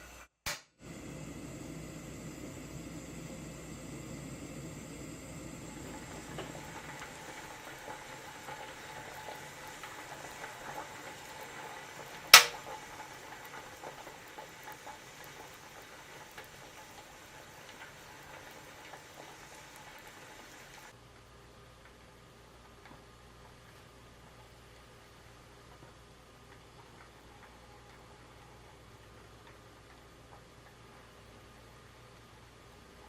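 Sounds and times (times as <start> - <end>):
pot simmering with bubbling: 0.8 - 33.0.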